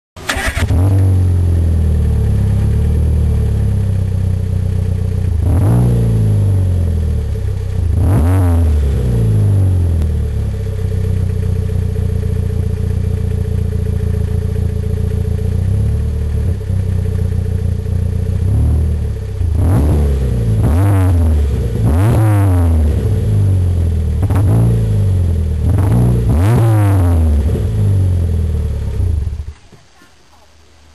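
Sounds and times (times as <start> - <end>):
car engine idling with rev blips: 0.2 - 29.9.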